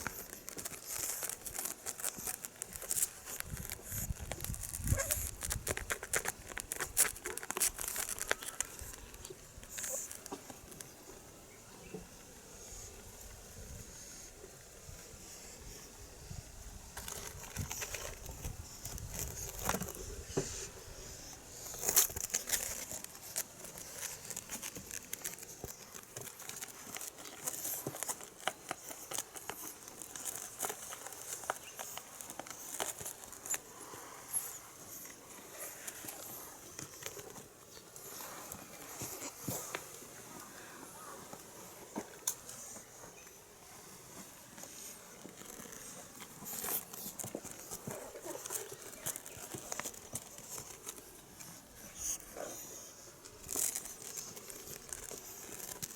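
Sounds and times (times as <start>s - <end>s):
kittens playing with toy: 0.0s - 11.0s, 16.9s - 39.6s, 44.5s - 55.9s.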